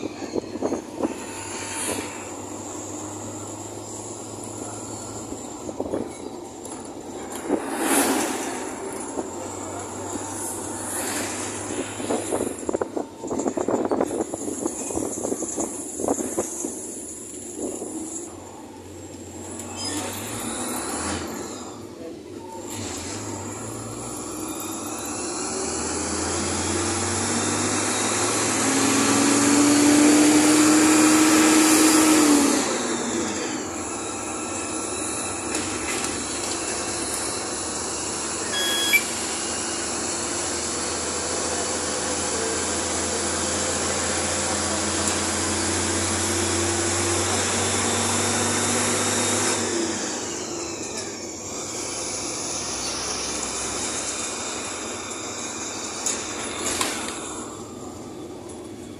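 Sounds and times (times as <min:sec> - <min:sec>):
rising engine whine: 0:00.0 - 0:19.7, 0:22.7 - 0:58.9
bus engine and road noise: 0:00.0 - 0:58.9.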